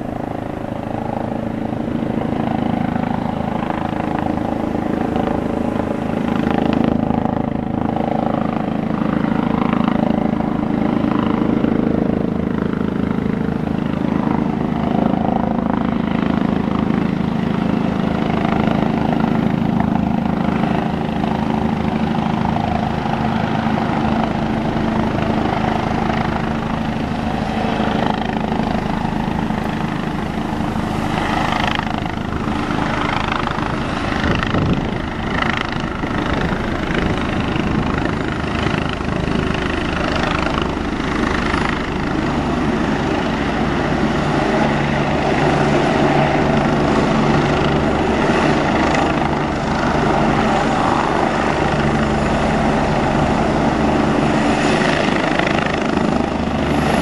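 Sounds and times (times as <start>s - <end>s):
helicopter rotor beat: 0.0s - 57.0s
turbine engine hum: 0.0s - 57.0s.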